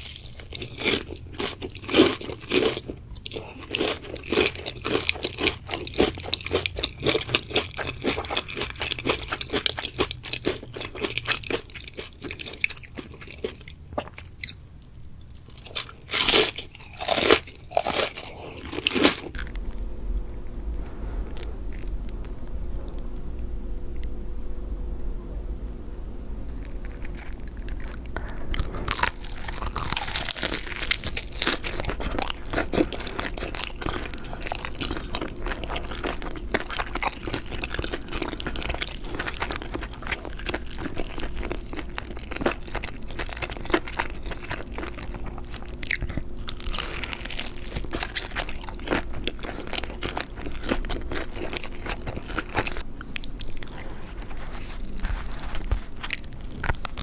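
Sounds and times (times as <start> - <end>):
crunchy food being chewed: 0.0 - 19.8, 26.4 - 57.0.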